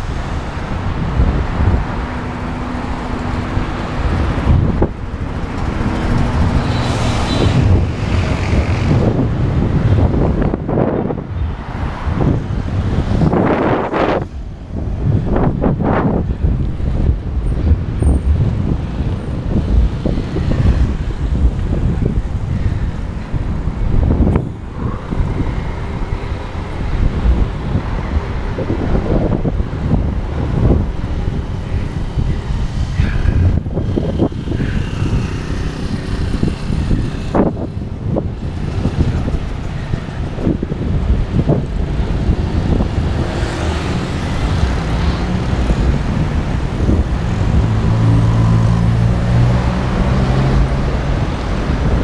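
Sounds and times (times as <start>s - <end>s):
road traffic passing: 0.0s - 52.0s
wind rumble on microphone: 0.0s - 52.0s.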